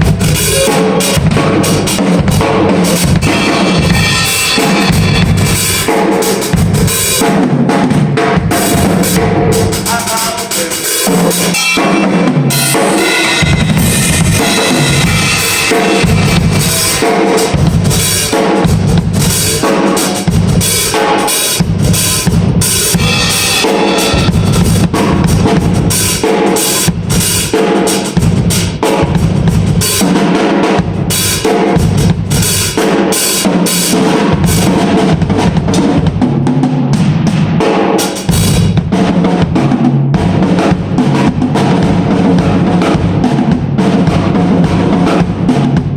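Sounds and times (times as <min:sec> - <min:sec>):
drum kit playing busy pattern: 0:00.0 - 0:45.9.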